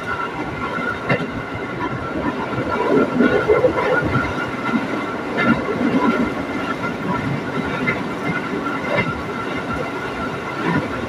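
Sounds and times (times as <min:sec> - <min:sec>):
train wheels rumbling on track: 0:00.0 - 0:11.0
wheels clicking over rail joints: 0:00.0 - 0:11.0.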